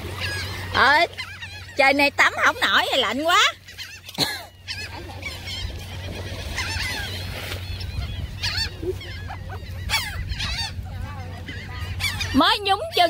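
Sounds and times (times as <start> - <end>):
gulls squawking: 0.0 - 13.0.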